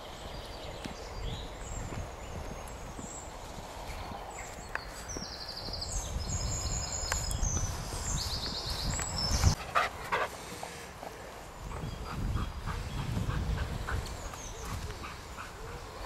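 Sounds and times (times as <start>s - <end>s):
songbirds trilling: 0.0s - 9.6s, 10.4s - 16.0s.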